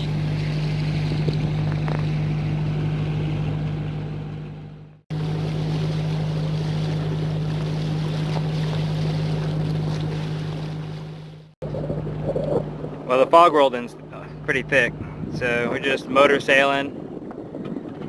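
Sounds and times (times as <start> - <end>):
boat engine humming: 0.0 - 18.0
water noise: 0.0 - 18.0
wind: 0.0 - 18.0.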